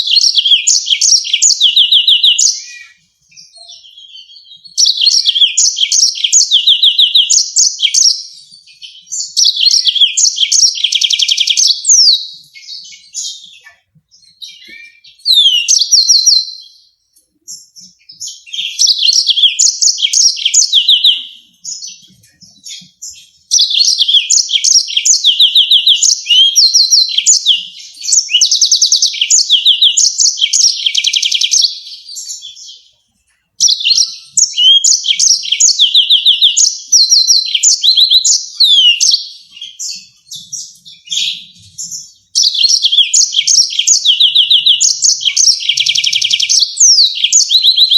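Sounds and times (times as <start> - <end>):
canary singing high trills: 0.0 - 47.9.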